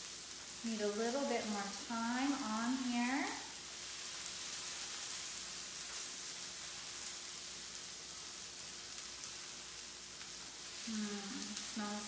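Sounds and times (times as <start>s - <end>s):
okra sizzling in oil: 0.0s - 12.0s.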